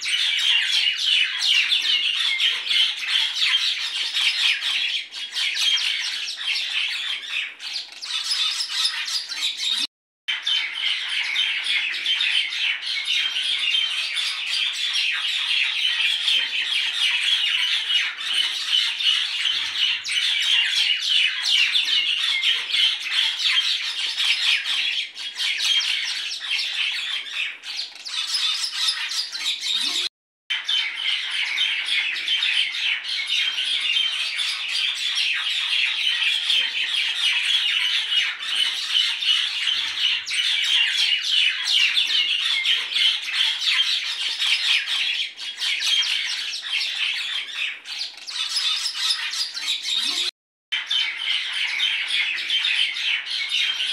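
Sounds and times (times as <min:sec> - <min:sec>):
birds chirping and squawking: 0:00.0 - 0:53.9.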